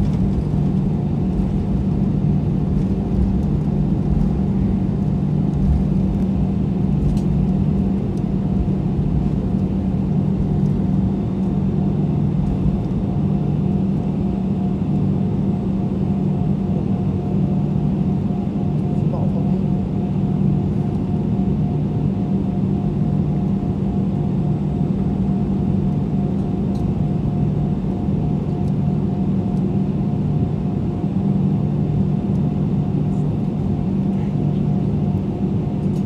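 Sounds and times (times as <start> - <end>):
jet engines humming at low power: 0.0 - 36.0.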